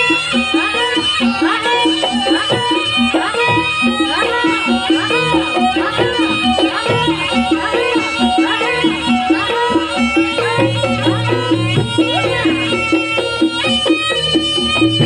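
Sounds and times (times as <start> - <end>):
drum beats: 0.0 - 15.0
shrill shawm melody: 0.0 - 15.0
struck pitched notes: 2.5 - 15.0.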